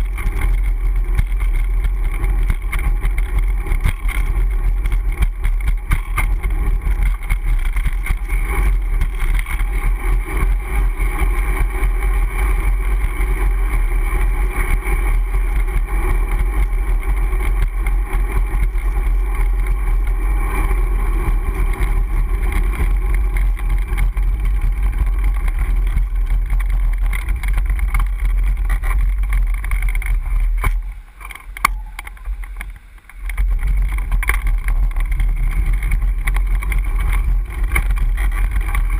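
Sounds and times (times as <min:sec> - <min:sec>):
road rumble: 0:00.0 - 0:38.9
wind buffeting microphone: 0:00.0 - 0:38.9.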